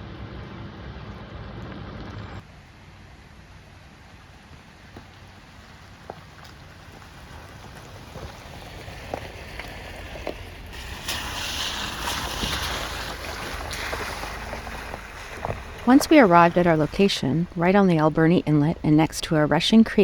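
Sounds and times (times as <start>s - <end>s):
wind rumble: 0.0s - 20.0s
fast creek rushing: 2.4s - 20.0s.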